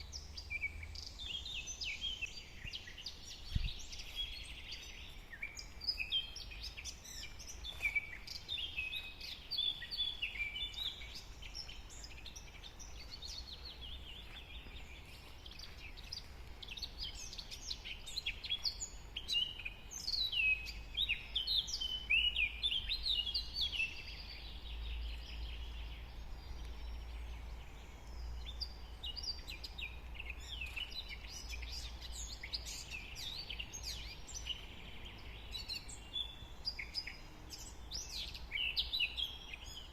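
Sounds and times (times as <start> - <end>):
forest birds chirping and trilling: 0.0 - 39.9.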